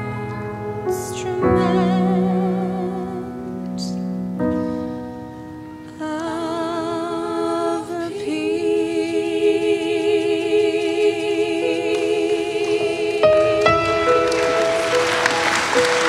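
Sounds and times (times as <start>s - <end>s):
vocal group singing a cappella: 0.0s - 4.0s, 5.9s - 16.0s.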